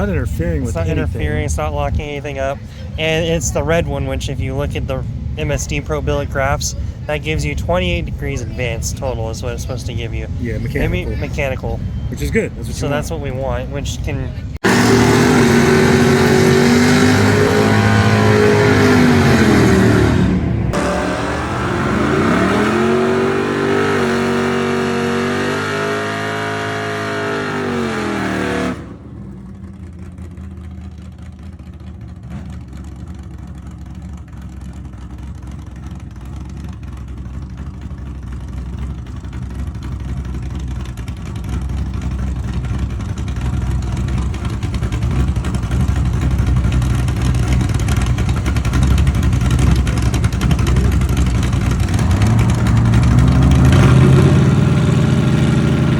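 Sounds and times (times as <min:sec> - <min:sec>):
low engine rumble: 0:00.0 - 0:25.4, 0:28.7 - 0:55.9
car engine revving: 0:00.0 - 0:55.9.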